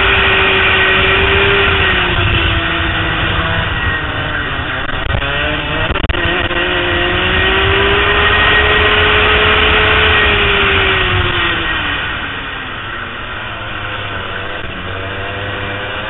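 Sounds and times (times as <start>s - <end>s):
kart engine revving: 0.0s - 16.0s.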